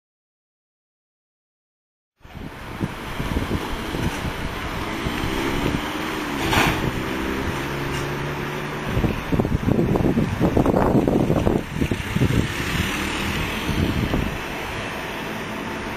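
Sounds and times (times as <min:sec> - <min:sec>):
road noise: 0:02.2 - 0:15.9
vehicle engine humming: 0:02.2 - 0:15.9
wind rumbling on microphone: 0:02.2 - 0:15.9.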